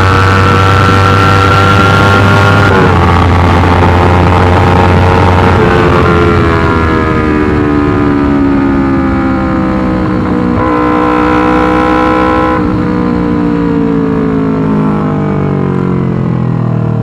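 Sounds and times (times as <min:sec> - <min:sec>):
motorcycle engine running loud: 0:00.0 - 0:17.0.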